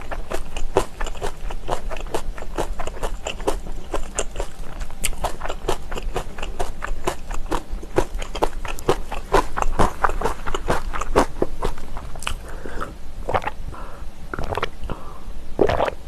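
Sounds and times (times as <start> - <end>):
crunchy chewing: 0.0 - 13.6.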